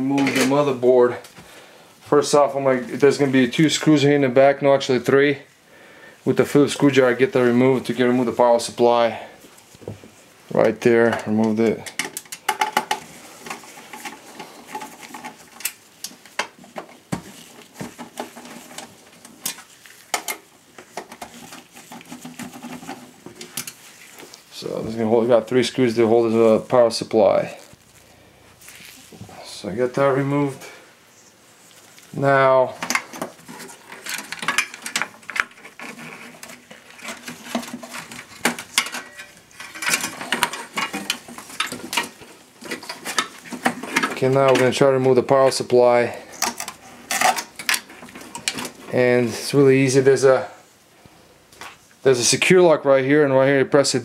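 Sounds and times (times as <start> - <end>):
wire bundles rustling: 6.2 - 50.6.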